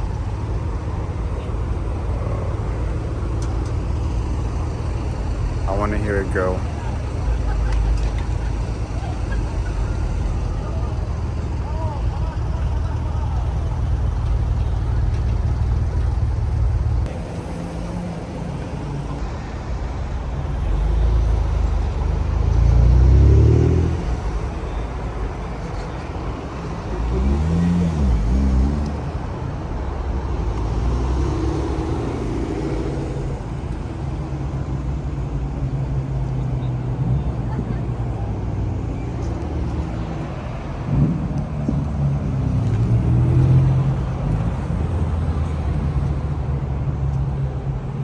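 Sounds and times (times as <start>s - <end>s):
car engine revving: 0.0s - 46.8s.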